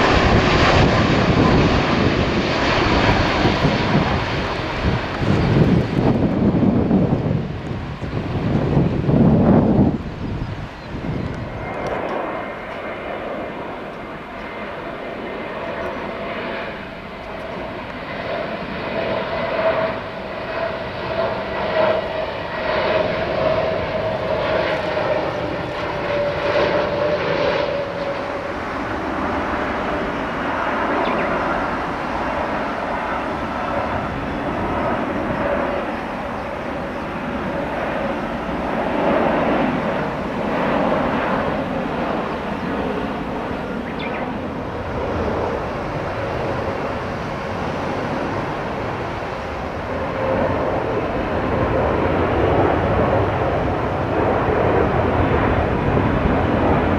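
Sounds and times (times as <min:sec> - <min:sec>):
jet airliner passing overhead: 0:00.0 - 0:56.9.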